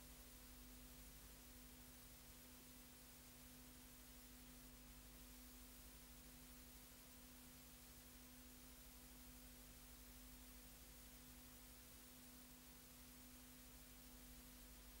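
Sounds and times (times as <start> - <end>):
constant hiss: 0.0 - 15.0
faint low hum: 0.0 - 15.0.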